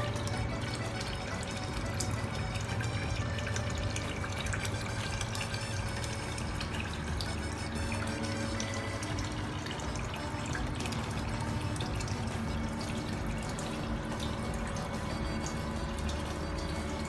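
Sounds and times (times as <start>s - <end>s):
water pouring into plastic tub: 0.0s - 17.0s.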